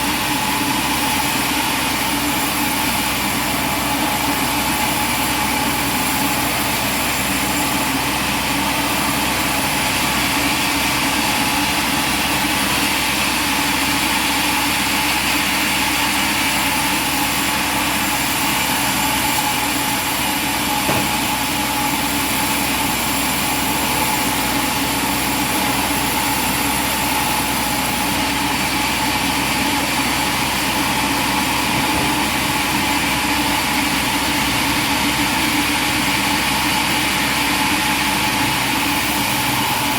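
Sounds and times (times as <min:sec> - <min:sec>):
machinery drone: 0:00.0 - 0:39.9.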